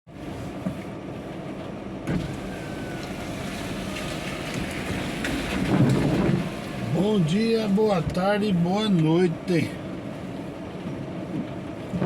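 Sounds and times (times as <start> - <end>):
rain on truck cab: 0.1 - 12.0
truck engine running: 0.1 - 12.0.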